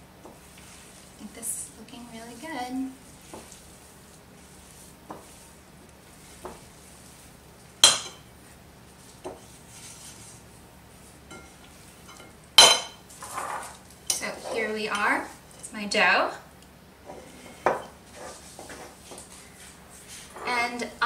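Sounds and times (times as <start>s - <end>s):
spatula stirring cookie dough: 0.0s - 15.6s, 17.1s - 21.0s.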